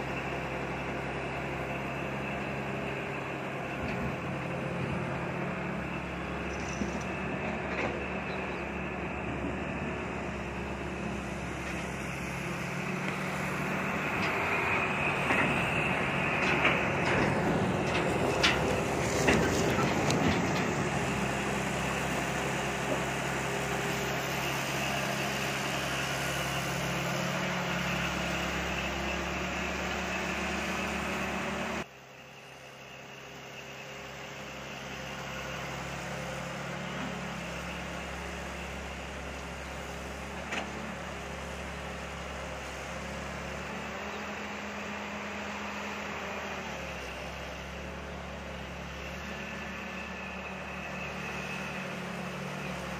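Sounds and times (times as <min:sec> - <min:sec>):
diesel engine hum: 0:00.0 - 0:52.9.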